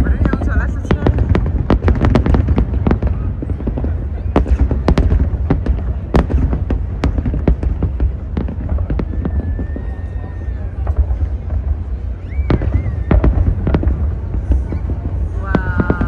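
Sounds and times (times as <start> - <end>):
crowd voices: 0.0 - 16.0
fireworks cracking and popping: 0.0 - 16.0.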